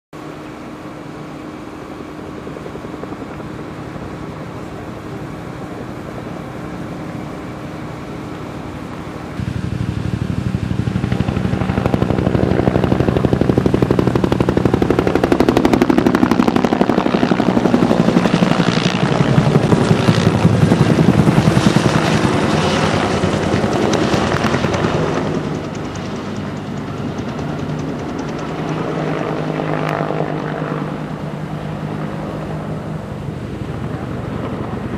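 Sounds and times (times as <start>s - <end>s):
helicopter engine drone: 0.2s - 34.9s
helicopter rotor blades chopping: 0.6s - 34.9s.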